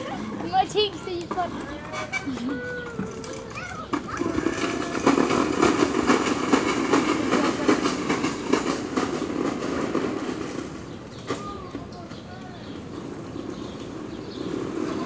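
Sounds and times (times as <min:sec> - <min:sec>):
small wheels rolling over concrete: 0:00.0 - 0:15.0.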